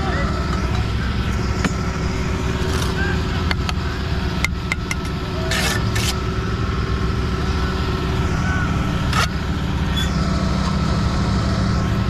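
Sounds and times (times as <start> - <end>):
engine humming: 0.0 - 12.0
rush of noise: 0.0 - 12.0.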